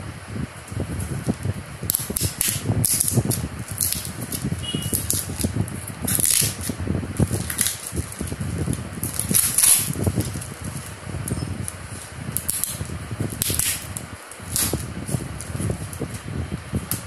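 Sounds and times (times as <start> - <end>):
cardboard rustling and tearing: 1.0 - 17.0
packing tape ripping: 1.2 - 16.3.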